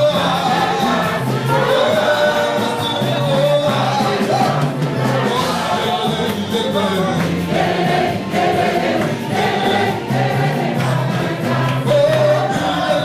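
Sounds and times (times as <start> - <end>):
choir singing gospel song: 0.0 - 13.0
light drum beat: 0.0 - 13.0.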